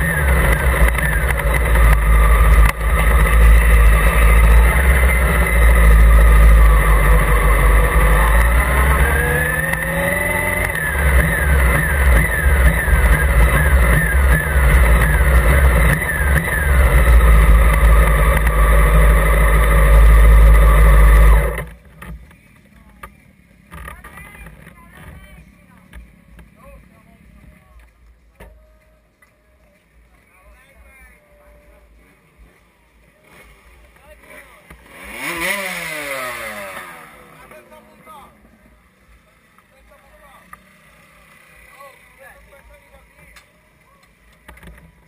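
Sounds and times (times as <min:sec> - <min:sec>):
motorcycle engine revving: 0:00.0 - 0:27.6, 0:31.1 - 0:45.0.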